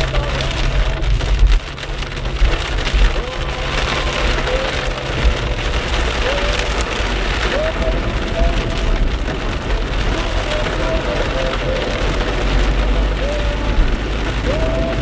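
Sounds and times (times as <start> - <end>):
car rumbling on wet road: 0.0 - 15.0
rain pelting a car: 0.0 - 15.0.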